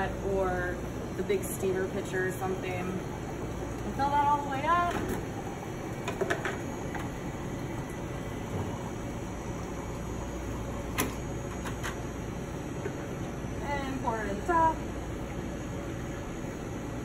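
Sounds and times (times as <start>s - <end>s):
hot water filling kettle: 0.0s - 17.0s.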